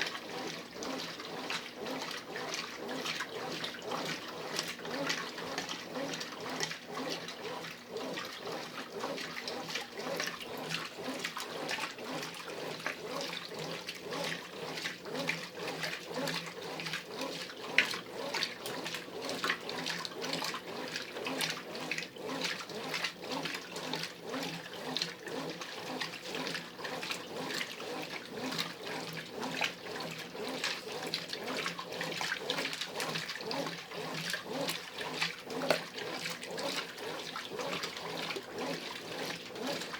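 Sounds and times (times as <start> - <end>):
washing machine agitating: 0.0 - 39.9.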